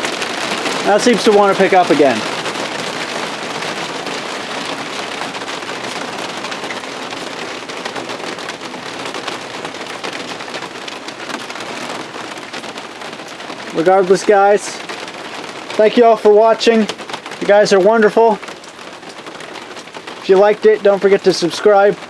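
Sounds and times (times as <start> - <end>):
heavy rain on hard surfaces: 0.0 - 22.0.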